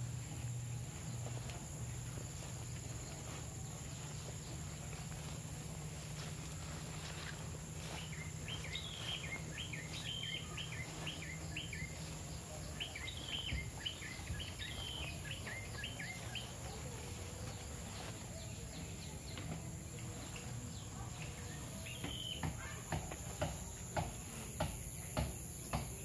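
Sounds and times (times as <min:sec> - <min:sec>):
low outdoor rumble: 0:00.0 - 0:24.4
small bird chirping: 0:00.0 - 0:26.0.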